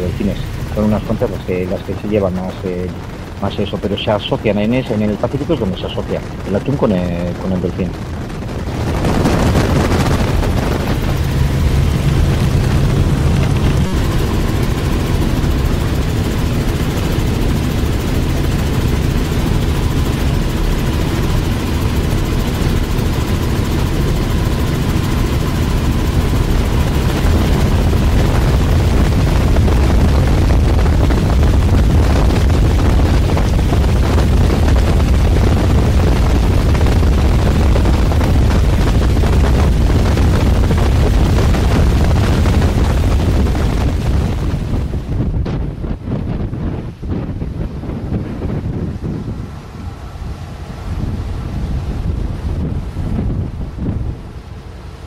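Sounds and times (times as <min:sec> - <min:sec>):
helicopter engine and rotor rumble: 0:00.0 - 0:55.0.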